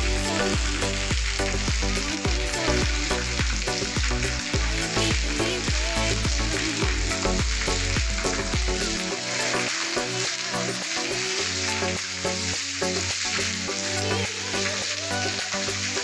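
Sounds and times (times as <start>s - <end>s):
background music: 0.0s - 16.0s
heavy rain: 0.0s - 16.0s.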